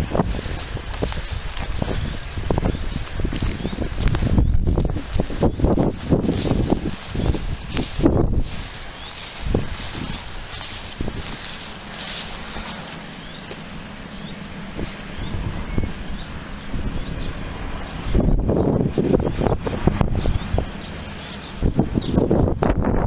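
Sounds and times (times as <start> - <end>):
insect chirping: 0.0 - 23.0.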